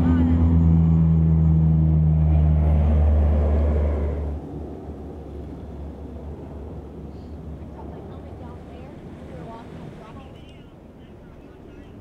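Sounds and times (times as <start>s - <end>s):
turboprop plane droning: 0.0s - 12.0s.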